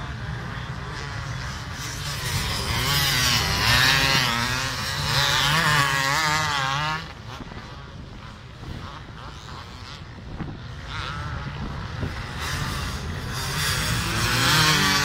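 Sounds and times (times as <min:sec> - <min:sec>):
racing motorbike engine revving: 0:00.0 - 0:15.0.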